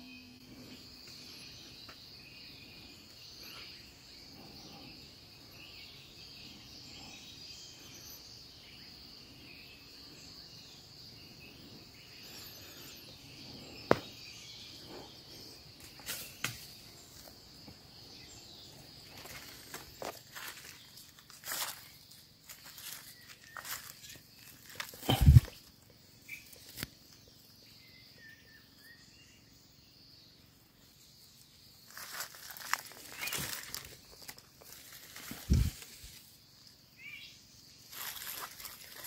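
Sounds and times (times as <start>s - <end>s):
crickets chirring: 0.0s - 39.0s.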